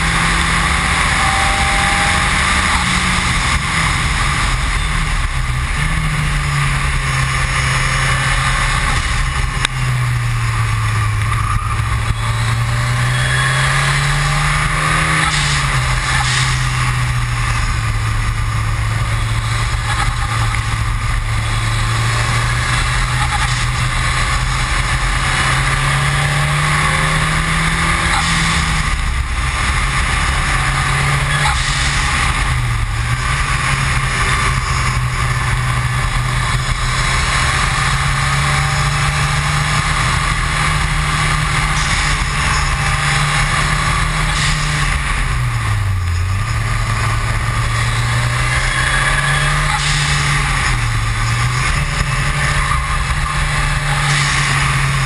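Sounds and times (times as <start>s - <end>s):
car engine running hard: 0.0s - 55.0s
loud rushing noise: 0.0s - 55.0s.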